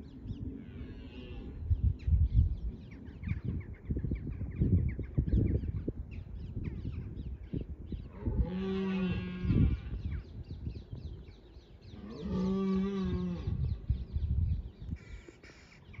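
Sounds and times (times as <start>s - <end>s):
low gusty rumble: 0.0s - 16.0s.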